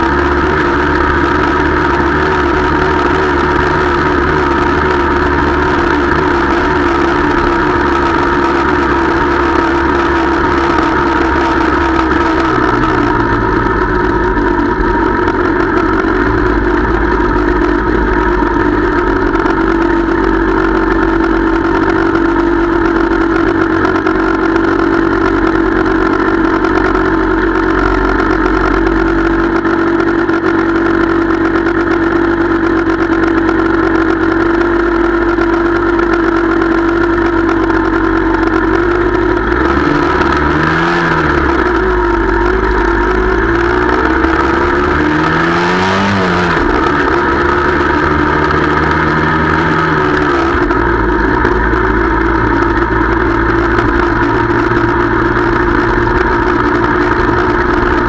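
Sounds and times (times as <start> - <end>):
small motorbike engine running: 0.0 - 58.0.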